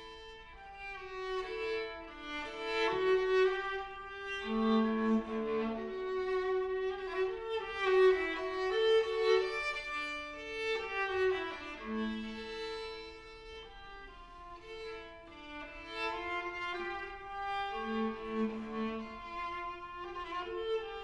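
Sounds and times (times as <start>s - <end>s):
viola playing slow melody: 0.0s - 21.0s.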